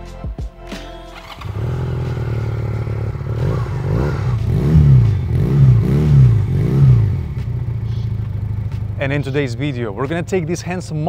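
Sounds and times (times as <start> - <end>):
motorcycle engine idling: 1.2 - 11.0
motorcycle throttle blips: 1.2 - 11.0.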